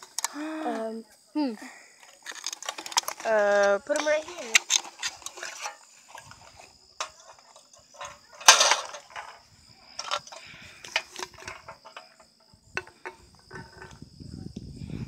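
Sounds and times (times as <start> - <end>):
insects humming: 0.0 - 15.0
handling clicks and rustles: 2.0 - 14.0.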